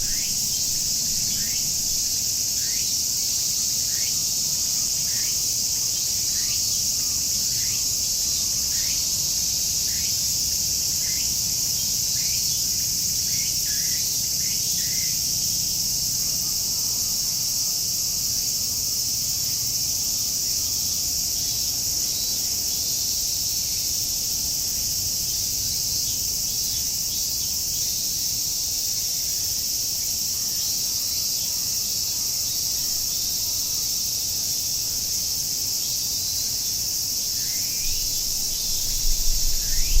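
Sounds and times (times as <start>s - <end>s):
cicadas droning: 0.0s - 40.0s.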